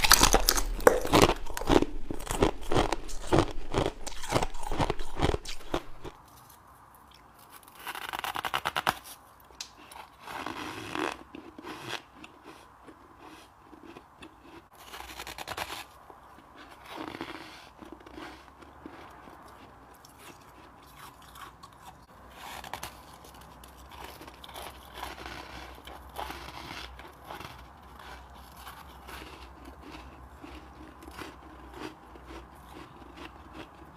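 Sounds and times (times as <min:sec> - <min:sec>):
ice being chewed crunching: 0:00.0 - 0:08.6, 0:09.4 - 0:33.9.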